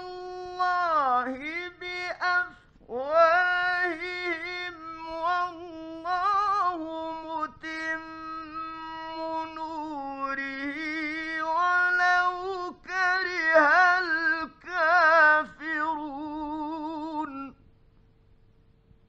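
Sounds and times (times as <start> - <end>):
man chanting recitation: 0.0 - 17.6.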